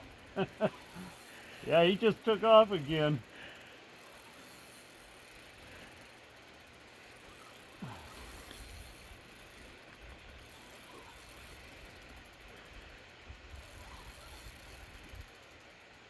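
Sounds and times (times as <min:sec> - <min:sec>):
fishing reel clicking: 0:00.0 - 0:16.0
hiss of river and wind: 0:00.0 - 0:16.0.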